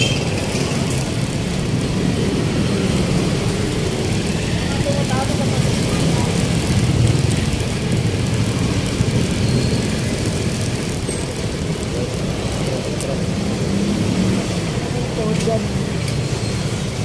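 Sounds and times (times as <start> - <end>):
tyres on street: 0.0 - 17.0
vehicle engines: 0.0 - 17.0.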